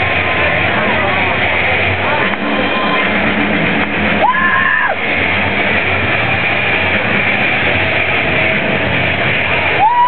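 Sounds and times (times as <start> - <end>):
arena crowd noise: 0.0 - 10.0
music over sound system: 0.0 - 10.0.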